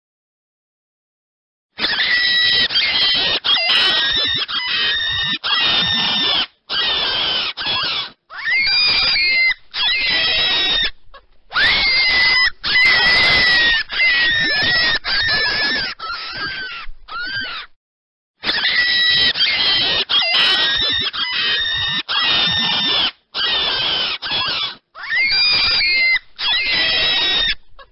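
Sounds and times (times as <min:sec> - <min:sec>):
rabbit squealing: 0:01.8 - 0:17.8, 0:18.4 - 0:27.9.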